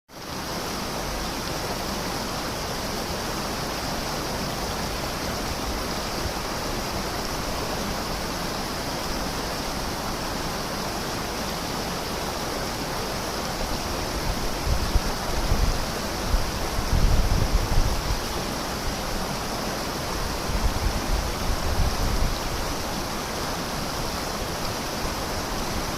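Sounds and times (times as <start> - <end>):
river rushing: 0.1 - 25.9.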